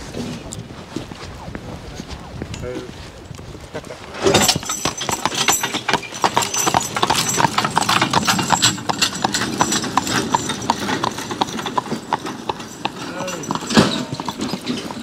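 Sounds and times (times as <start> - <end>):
hooves clip-clopping on asphalt: 0.0 - 15.0.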